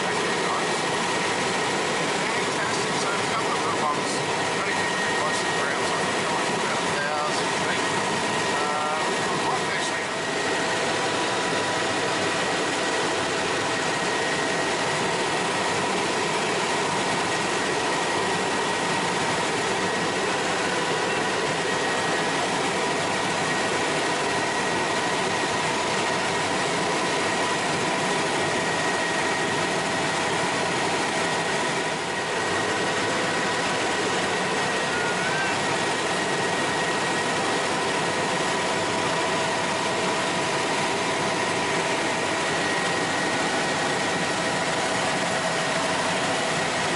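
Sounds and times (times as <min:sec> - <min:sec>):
helicopter cabin noise: 0:00.0 - 0:46.9.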